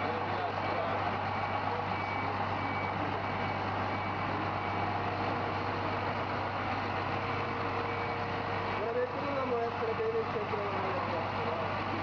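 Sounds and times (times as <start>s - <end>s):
reversing alarm beeps: 0.0s - 11.6s
diesel engine running: 0.0s - 12.0s.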